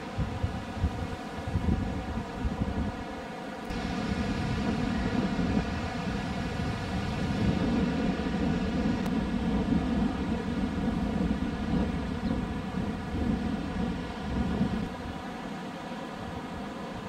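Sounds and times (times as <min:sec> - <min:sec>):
wind buffeting microphone: 0:00.0 - 0:03.0, 0:03.7 - 0:15.3
faint steady hum: 0:00.0 - 0:17.0.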